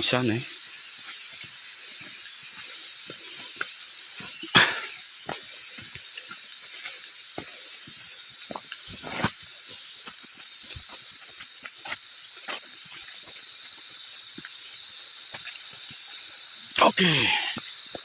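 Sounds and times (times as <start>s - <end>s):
forest ambience hiss: 0.0s - 18.0s
footsteps on leaf litter and twigs: 0.5s - 16.6s.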